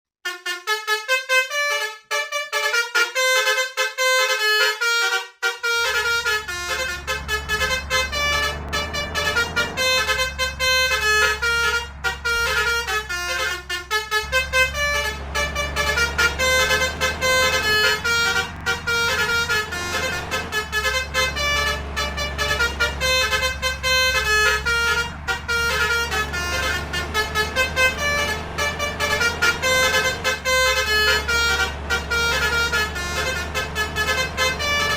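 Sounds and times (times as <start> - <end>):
multi-tone air horn melody: 0.2 - 34.9
low engine drone: 5.8 - 34.9.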